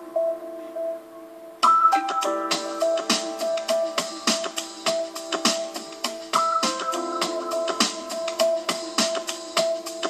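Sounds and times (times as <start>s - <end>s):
steady beat: 1.6s - 10.0s.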